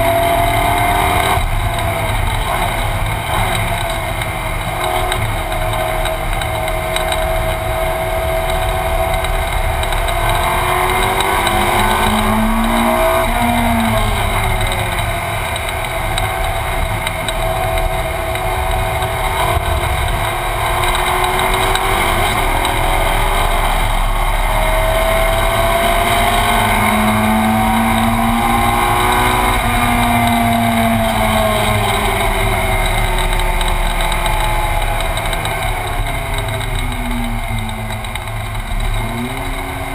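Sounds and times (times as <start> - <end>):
racing car engine from inside cabin: 0.0 - 39.9.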